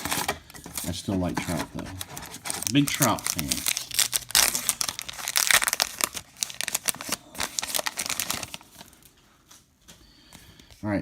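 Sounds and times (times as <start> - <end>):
wrapper crinkling and tearing: 0.0 - 9.1.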